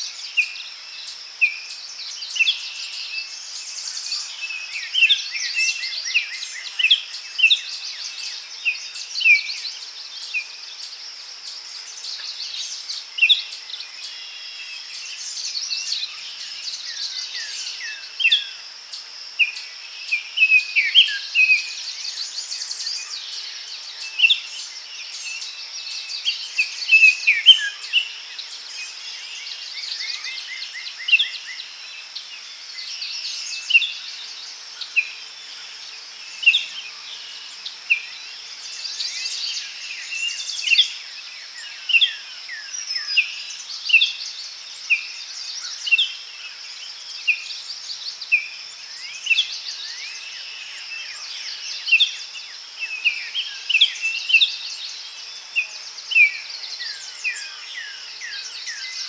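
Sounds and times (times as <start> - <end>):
birds singing and calling: 0.0 - 59.0
high insect drone: 0.0 - 59.0.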